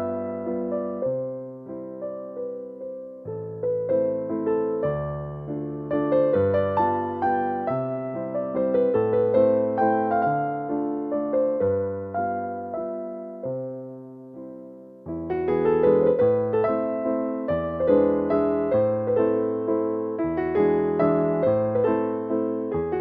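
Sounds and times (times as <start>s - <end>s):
piano chords and melody: 0.0s - 23.0s.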